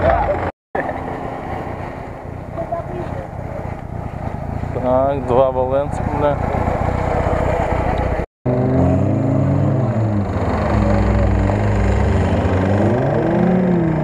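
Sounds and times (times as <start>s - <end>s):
off-road engine revving: 0.0s - 14.0s
rough noisy engine: 0.0s - 14.0s.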